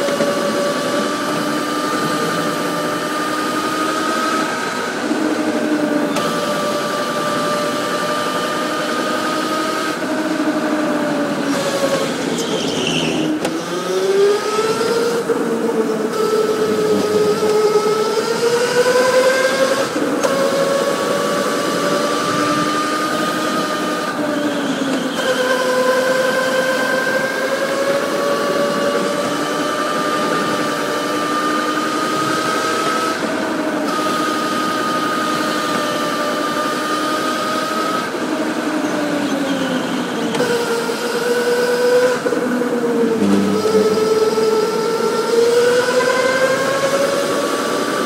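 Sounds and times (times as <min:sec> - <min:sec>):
electric go-kart motor whining: 0:00.0 - 0:48.0.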